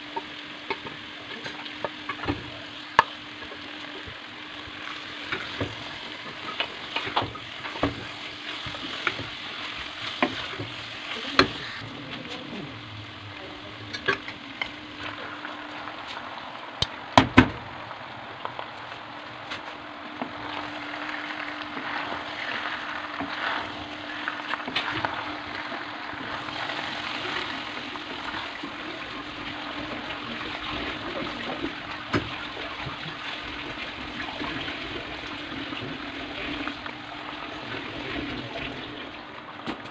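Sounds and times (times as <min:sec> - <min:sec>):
food sizzling in a pot: 0:00.0 - 0:39.2.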